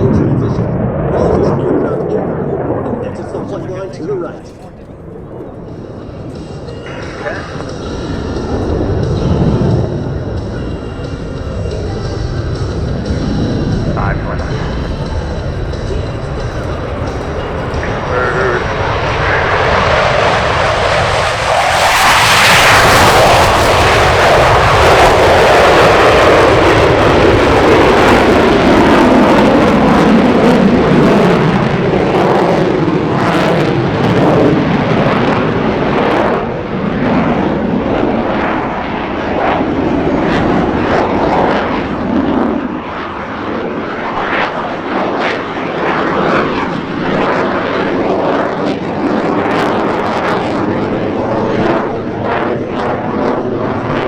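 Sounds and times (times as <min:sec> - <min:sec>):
jet aircraft flying past: 0:00.0 - 0:54.0.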